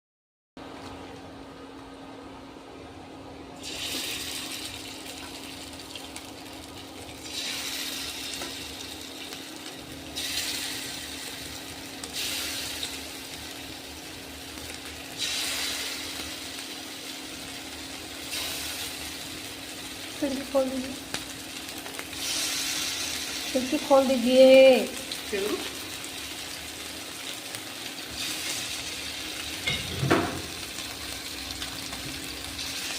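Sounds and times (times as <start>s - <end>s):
hot oil sizzling: 3.6s - 32.9s.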